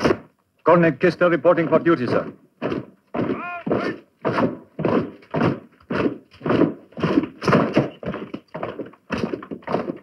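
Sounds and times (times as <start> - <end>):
horse hooves clopping: 1.0 - 10.0.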